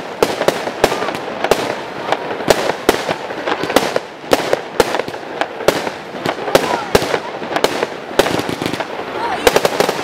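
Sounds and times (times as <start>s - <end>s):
crackling hiss: 0.0s - 10.0s
firework barrage shots: 0.0s - 10.0s.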